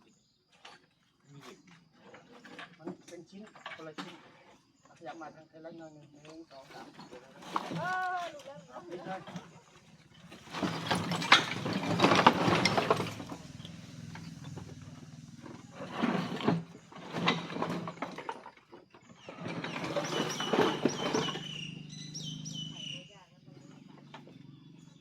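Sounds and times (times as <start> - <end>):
birds chirping: 0.0 - 25.0
masonry scraping and grinding: 0.4 - 4.8, 6.4 - 24.3.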